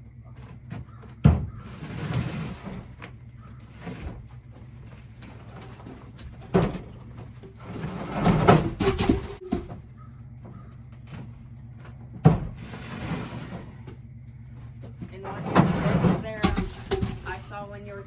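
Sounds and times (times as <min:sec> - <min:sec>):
logs knocking and scraping: 0:00.0 - 0:18.0
squeaky scrape: 0:00.3 - 0:11.5, 0:12.5 - 0:18.0.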